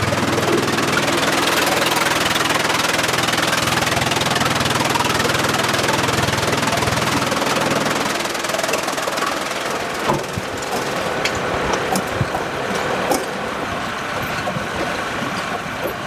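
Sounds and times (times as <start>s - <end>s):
low engine hum: 0.0s - 16.0s
sawmill machinery din: 0.0s - 16.0s.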